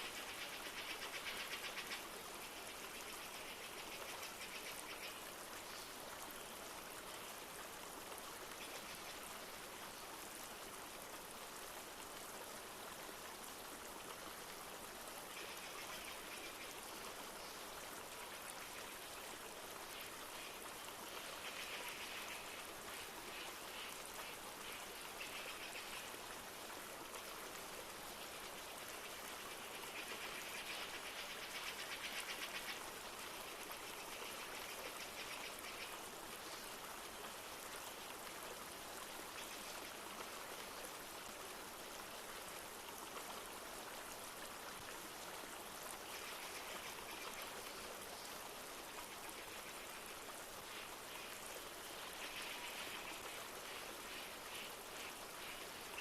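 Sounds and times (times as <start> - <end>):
light rain falling: 0.0 - 56.0
river running: 0.0 - 56.0.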